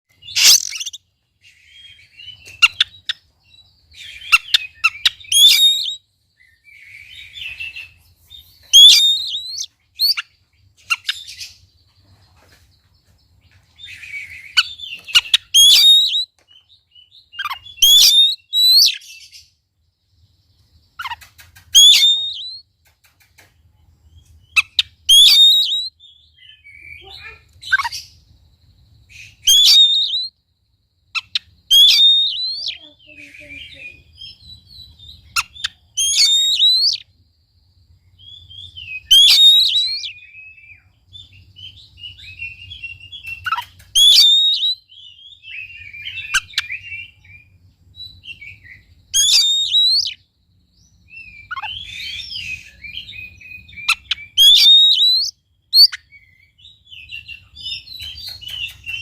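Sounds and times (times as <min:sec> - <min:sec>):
songbird singing whistled phrases: 0:00.1 - 0:11.7, 0:13.7 - 0:19.6, 0:20.9 - 0:22.7, 0:24.1 - 0:28.3, 0:29.1 - 0:30.4, 0:31.1 - 0:37.2, 0:38.1 - 0:59.0.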